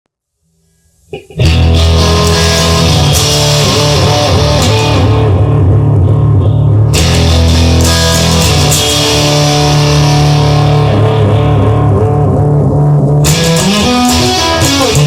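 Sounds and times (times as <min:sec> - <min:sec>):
bass guitar: 0:01.1 - 0:15.0
electric guitar: 0:01.1 - 0:15.0.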